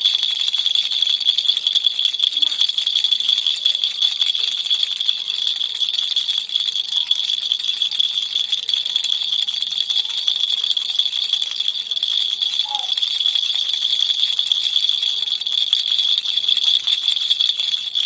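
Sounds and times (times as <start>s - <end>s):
baby toy rattle shaken: 0.0s - 18.0s.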